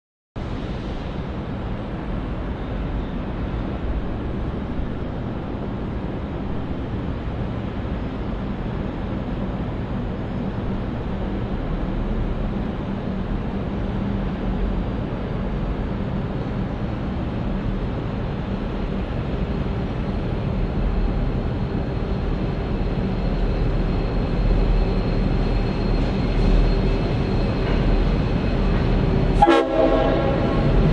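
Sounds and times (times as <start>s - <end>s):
diesel locomotive engine rumble: 0.4s - 30.9s.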